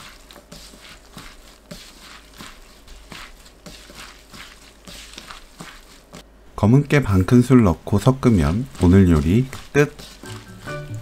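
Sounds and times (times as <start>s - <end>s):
vegetables squishing in dressing: 0.0s - 11.0s.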